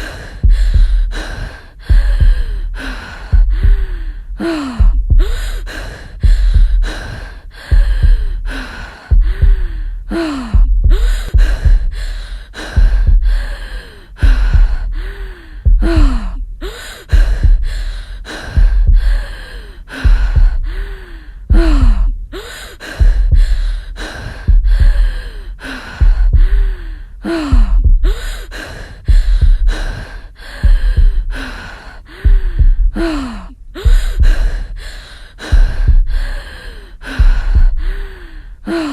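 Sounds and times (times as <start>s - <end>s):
heavy gasping breaths: 0.0s - 38.9s.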